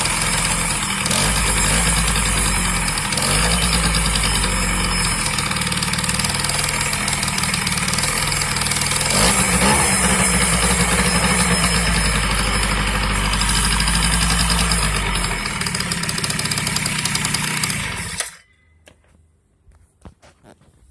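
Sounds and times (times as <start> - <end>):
scooter engine idling with knock: 0.0 - 18.4.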